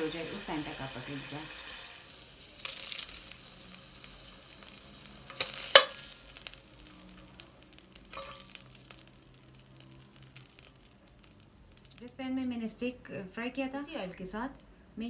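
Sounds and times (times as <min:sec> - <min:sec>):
steak sizzling in a skillet: 0:00.0 - 0:12.2.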